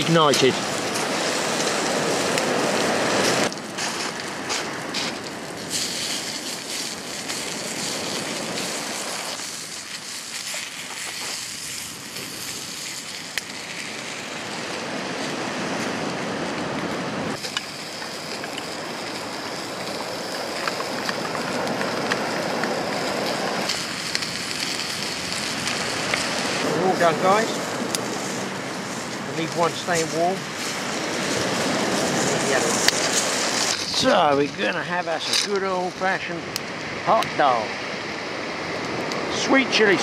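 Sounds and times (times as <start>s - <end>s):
sausages sizzling in a frying pan: 0.0s - 15.8s, 17.3s - 36.6s
fire crackling and popping: 0.0s - 40.0s.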